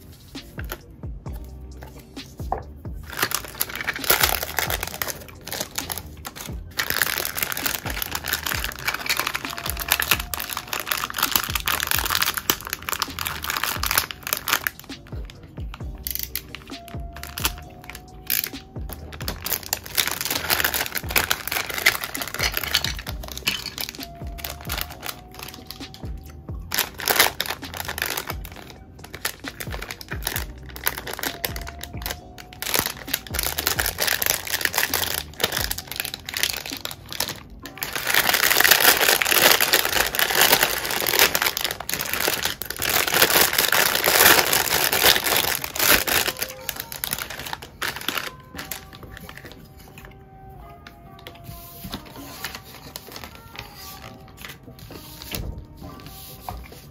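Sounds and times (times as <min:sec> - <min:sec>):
lo-fi hip-hop music: 0:00.0 - 0:56.9
plastic crinkling and rustling: 0:03.0 - 0:50.2, 0:51.1 - 0:56.9.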